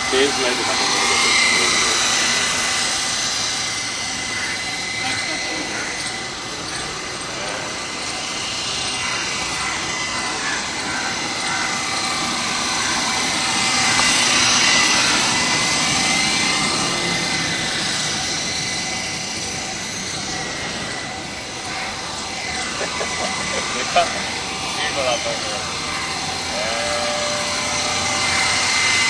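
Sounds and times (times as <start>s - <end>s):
toy helicopter whirring: 0.0s - 29.0s.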